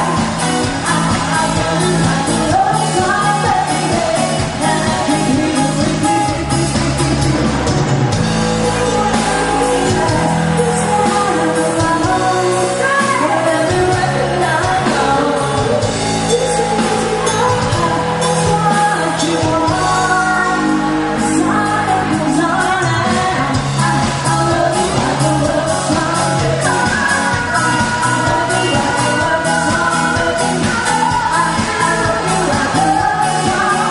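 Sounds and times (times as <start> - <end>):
band playing with lead singer: 0.0 - 33.9.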